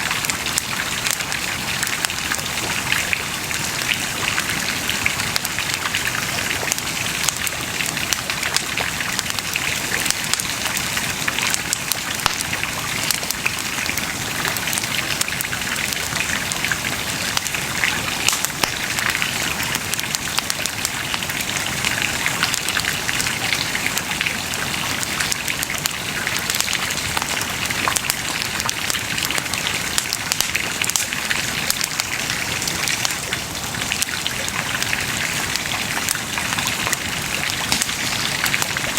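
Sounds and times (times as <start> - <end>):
bonfire crackling and popping: 0.1 - 38.9.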